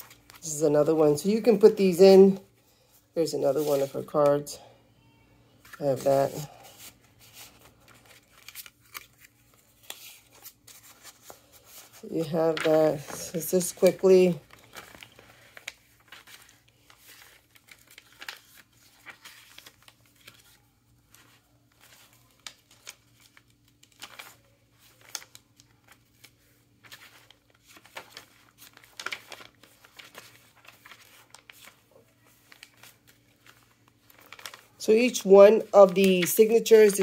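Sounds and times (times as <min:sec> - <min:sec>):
paper pages rustling: 0:00.0 - 0:01.7, 0:02.3 - 0:04.5, 0:05.6 - 0:37.0.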